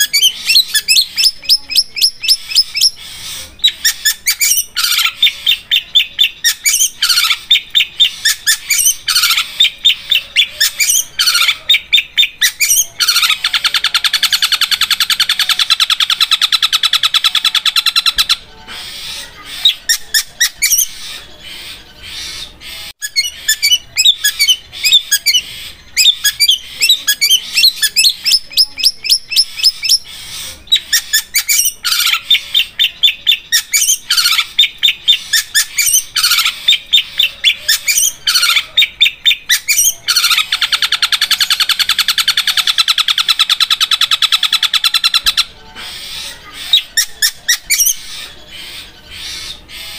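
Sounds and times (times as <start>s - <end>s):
bird singing sharp repeated notes: 0.0s - 49.9s
bird trilling: 0.0s - 49.9s.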